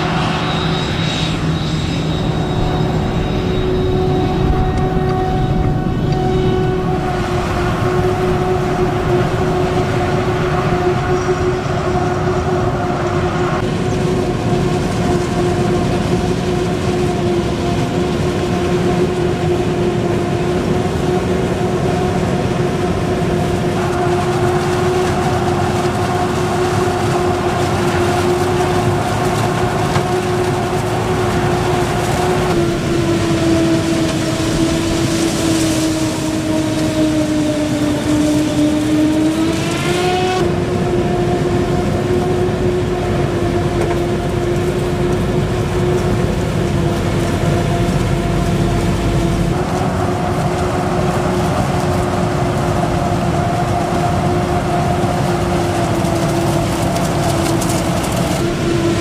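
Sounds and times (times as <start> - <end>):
steady machine whine: 0.0 - 59.0.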